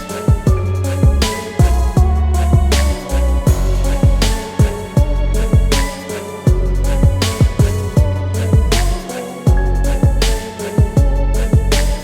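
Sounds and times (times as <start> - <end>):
hip-hop beat music: 0.0 - 12.0.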